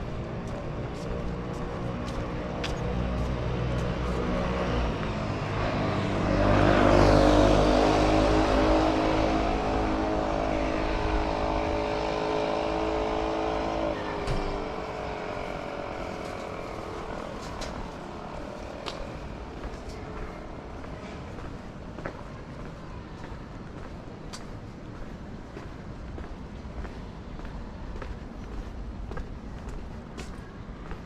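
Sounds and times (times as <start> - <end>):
traffic noise: 0.0 - 31.0.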